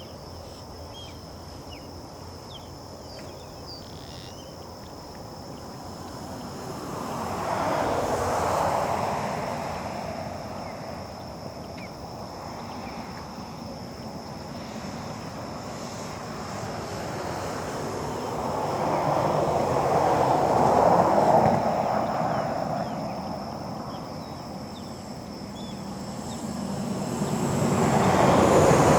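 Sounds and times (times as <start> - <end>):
vehicles passing by: 1.9 - 28.9.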